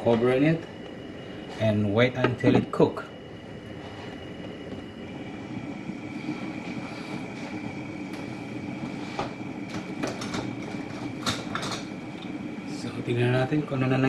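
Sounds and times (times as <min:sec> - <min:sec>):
pan boiling with low bubbling: 0:00.0 - 0:14.0.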